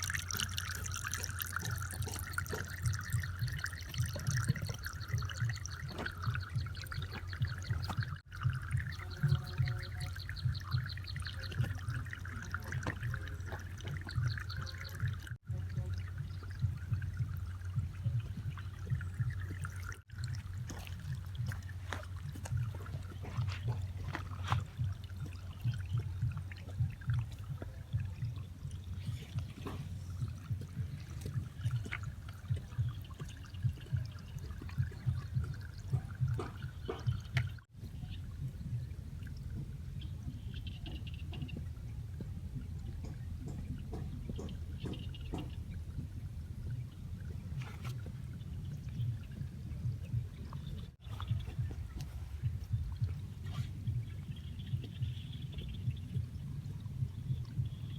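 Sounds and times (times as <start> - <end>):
water trickling and splashing: 0.0 - 57.9.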